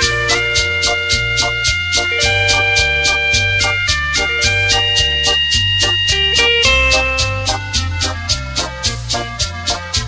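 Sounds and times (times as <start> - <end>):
drum machine beat: 0.0 - 10.0
electronic keyboard melody: 0.0 - 10.0.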